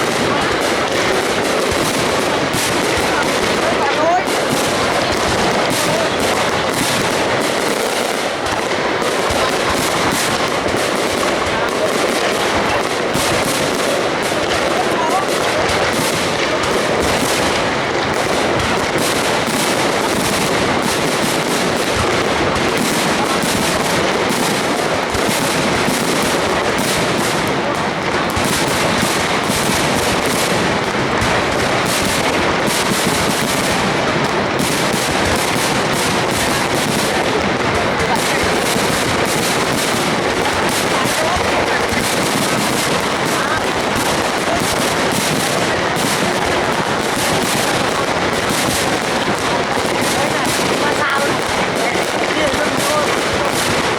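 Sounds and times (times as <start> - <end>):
crowd voices: 0.0 - 53.9.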